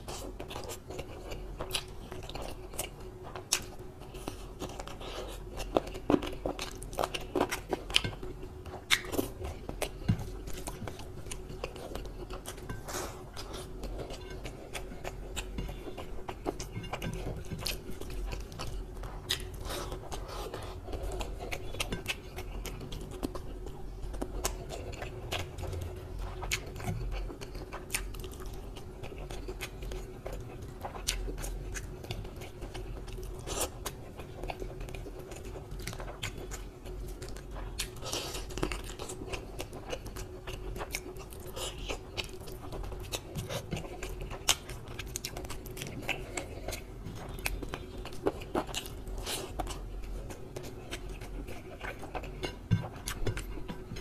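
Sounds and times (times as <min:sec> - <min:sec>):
person chewing and biting: 0:00.0 - 0:54.0.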